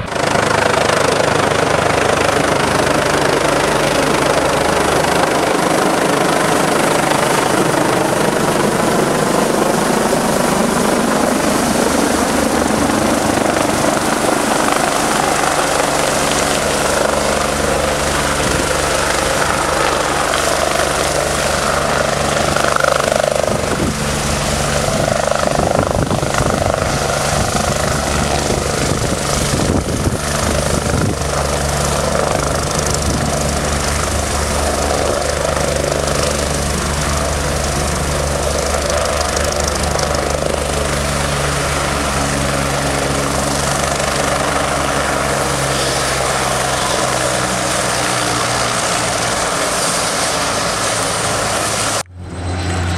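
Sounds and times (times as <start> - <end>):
helicopter rotor and turbine: 0.0 - 52.9.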